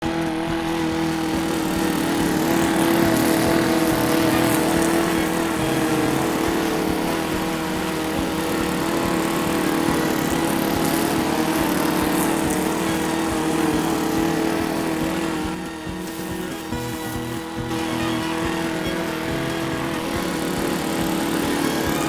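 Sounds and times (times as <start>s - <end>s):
small motor buzzing: 0.0s - 22.0s.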